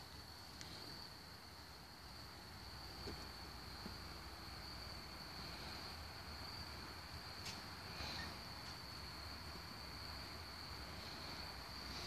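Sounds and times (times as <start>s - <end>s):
high-pitched insect chorus trilling: 0.0s - 12.0s.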